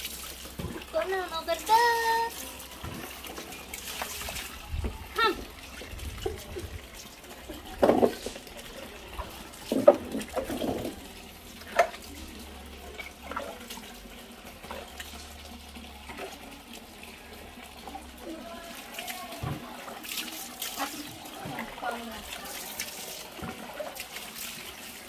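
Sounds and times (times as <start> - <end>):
water splashing on concrete floor: 0.0 - 16.8, 18.0 - 25.0.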